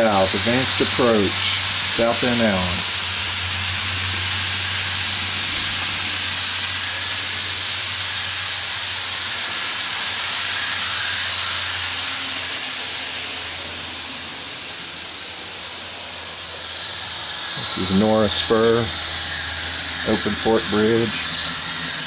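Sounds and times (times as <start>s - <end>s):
model train rolling on track: 0.0s - 22.0s.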